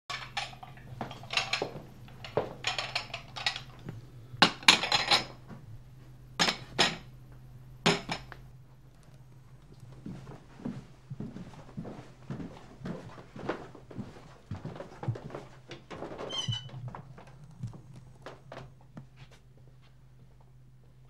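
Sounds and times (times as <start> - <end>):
faint steady hum: 0.1 - 21.0.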